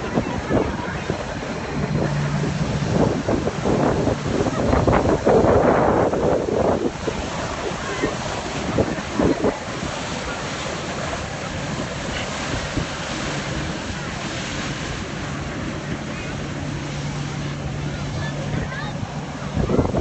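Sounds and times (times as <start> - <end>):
jet ski engine hum: 0.0 - 20.0
river water: 0.0 - 20.0
wind buffeting microphone: 0.0 - 20.0.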